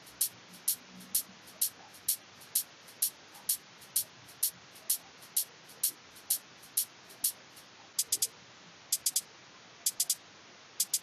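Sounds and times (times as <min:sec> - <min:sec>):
electronic hi-hat ticks: 0:00.0 - 0:08.3, 0:08.9 - 0:10.2, 0:10.8 - 0:11.0
low hiss: 0:00.0 - 0:11.0.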